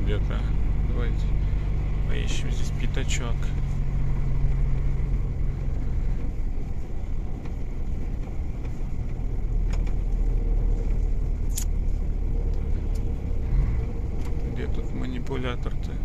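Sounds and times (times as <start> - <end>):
truck engine drone in cab: 0.0 - 16.0.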